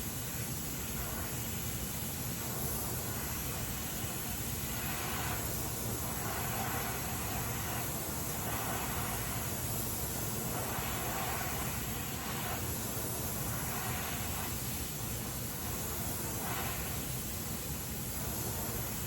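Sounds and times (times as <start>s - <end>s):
welding torch flame hissing: 0.0s - 19.0s.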